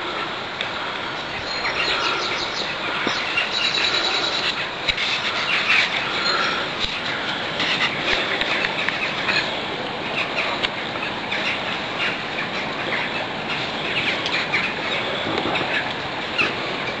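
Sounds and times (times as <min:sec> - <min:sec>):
birds chirping: 0:00.0 - 0:17.0
steady rushing hiss: 0:00.0 - 0:17.0.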